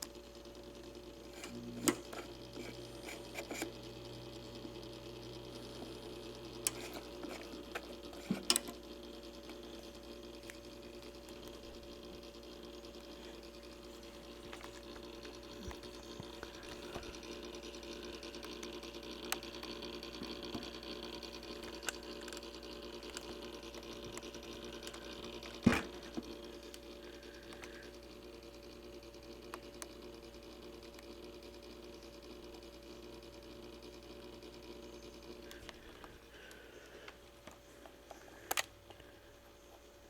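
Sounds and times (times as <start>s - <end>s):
clock motor hum and whir: 0.0s - 40.0s.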